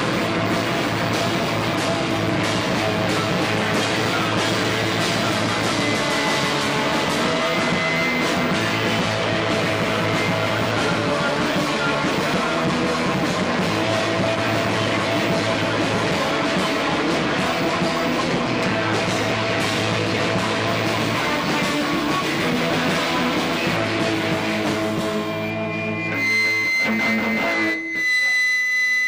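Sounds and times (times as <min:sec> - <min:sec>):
distorted electric guitars: 0:00.0 - 0:29.0
live rock band playing: 0:00.0 - 0:29.0
steady high tone: 0:01.2 - 0:18.6, 0:20.7 - 0:29.0.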